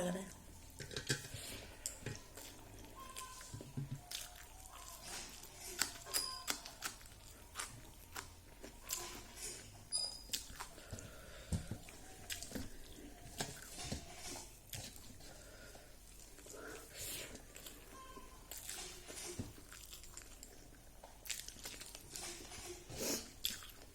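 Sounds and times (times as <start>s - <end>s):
person chewing food: 0.3s - 23.9s.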